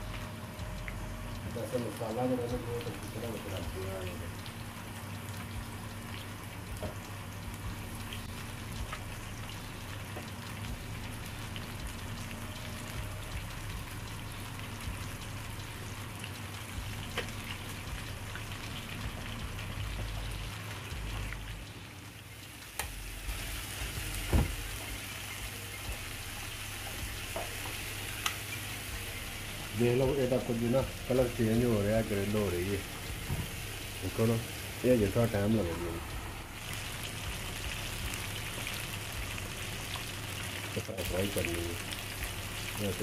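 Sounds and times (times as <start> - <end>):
fish deep-frying in hot oil: 0.0 - 43.0.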